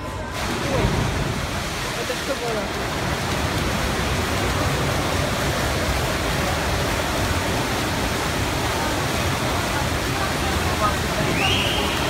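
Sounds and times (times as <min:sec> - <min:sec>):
swimmers splashing: 0:00.0 - 0:12.0.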